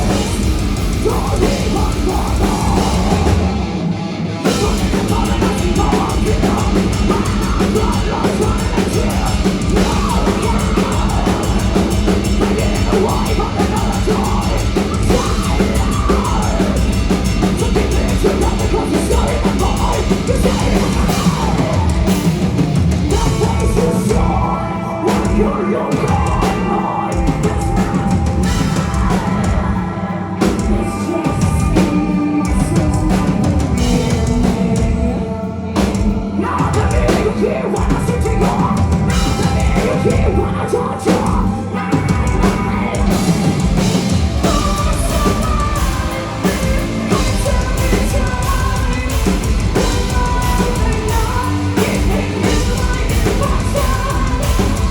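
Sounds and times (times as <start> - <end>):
heavy drum kit: 0.0 - 54.9
metal band playing: 0.0 - 54.9
person singing: 0.0 - 54.9.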